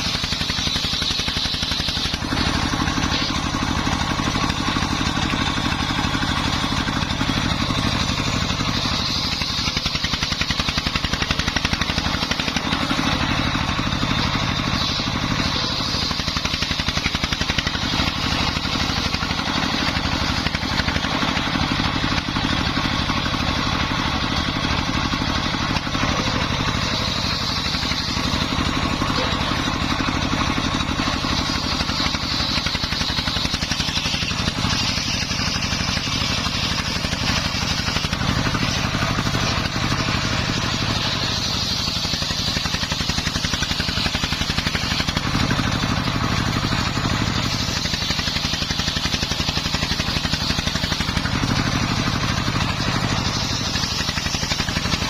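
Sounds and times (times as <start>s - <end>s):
circular saw cutting wood: 0.0s - 55.0s
diesel engine running: 0.0s - 55.0s.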